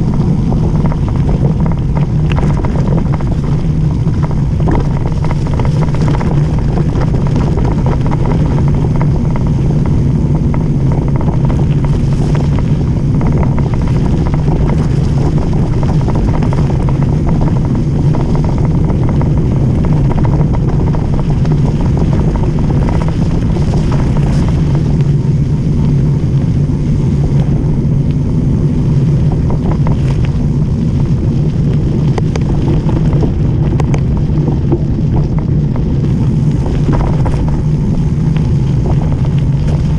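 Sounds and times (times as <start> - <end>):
bike rattling: 0.0 - 39.9
tyres rolling on gravel: 0.0 - 39.9
wind rushing over microphone: 0.0 - 39.9.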